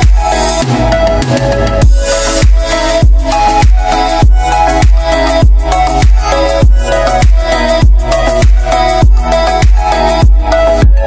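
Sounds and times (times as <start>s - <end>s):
music with kick drum beat: 0.0s - 11.0s.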